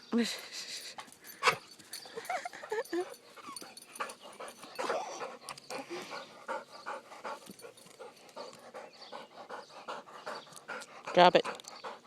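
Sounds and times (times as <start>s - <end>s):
dog panting hard: 1.0s - 12.0s.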